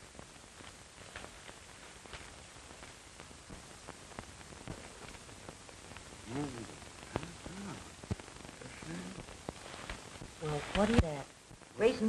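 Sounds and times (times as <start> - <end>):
film soundtrack hiss: 0.0 - 12.0
light crackles: 0.0 - 12.0.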